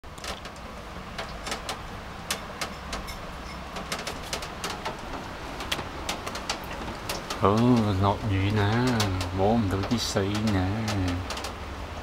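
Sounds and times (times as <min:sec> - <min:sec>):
raindrops ticking on window: 0:00.0 - 0:12.0
low steady rumble: 0:00.1 - 0:12.0.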